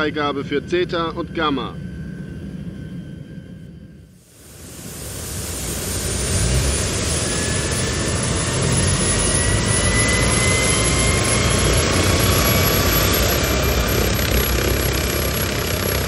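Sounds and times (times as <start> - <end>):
helicopter turbine engine spooling up: 0.0 - 16.0.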